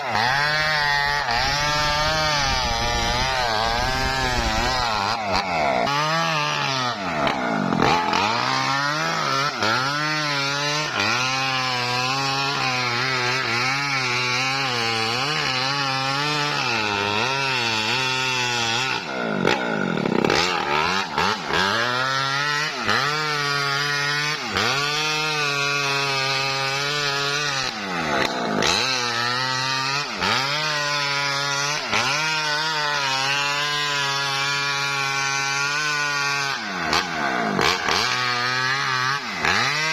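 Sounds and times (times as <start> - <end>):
petrol saw cutting wood: 0.0 - 39.9.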